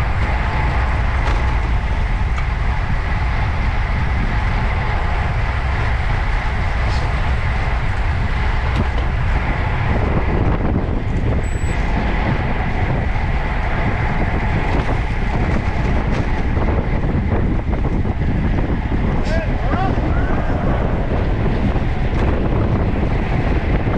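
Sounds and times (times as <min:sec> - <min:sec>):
bicycle tyre and road noise: 0:00.0 - 0:23.9
wind rushing over microphone: 0:00.0 - 0:23.9.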